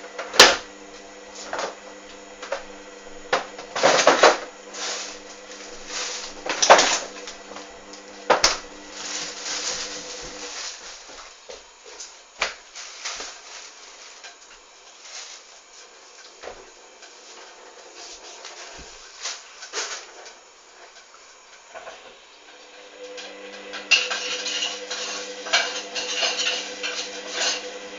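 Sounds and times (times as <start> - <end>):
washing machine drum motor humming: 0.0 - 27.9.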